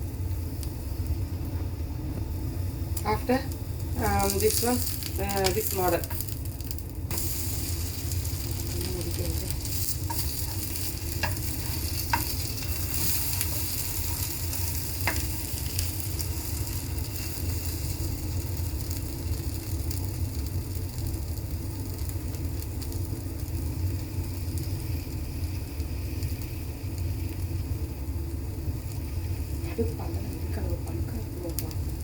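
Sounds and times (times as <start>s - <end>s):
bread sizzling in oil: 0.0s - 32.0s.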